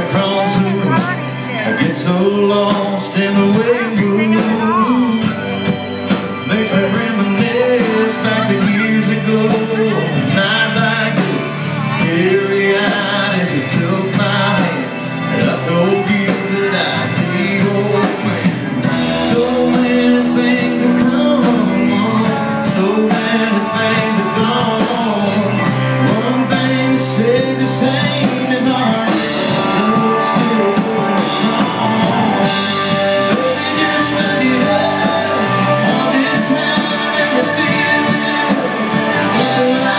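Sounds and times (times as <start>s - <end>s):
live country band playing: 0.0s - 39.9s
person singing: 0.0s - 39.9s.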